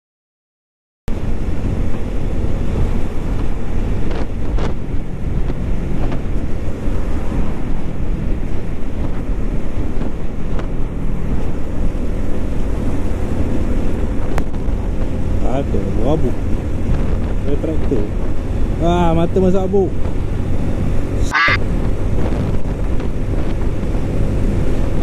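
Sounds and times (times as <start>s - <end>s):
wind buffeting microphone: 1.1s - 25.0s.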